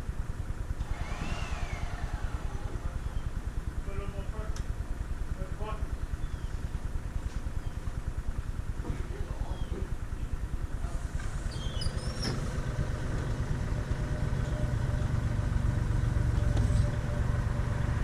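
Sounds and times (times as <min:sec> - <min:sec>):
engine running with low pulsing: 0:00.0 - 0:18.0.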